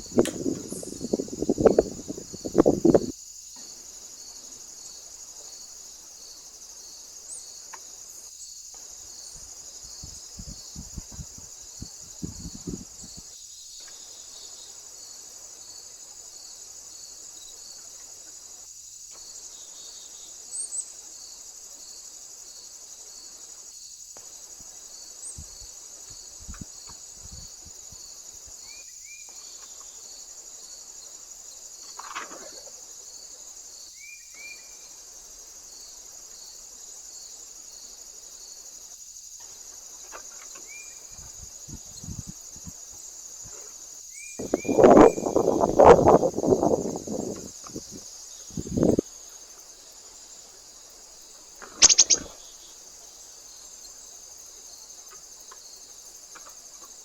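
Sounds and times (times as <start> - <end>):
insects trilling: 0.0 - 57.0
pulsing insect chirp: 0.0 - 57.0.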